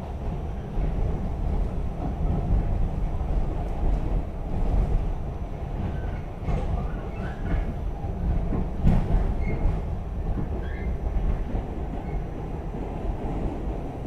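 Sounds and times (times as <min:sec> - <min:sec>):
subway train wheels rumbling: 0:00.0 - 0:14.0.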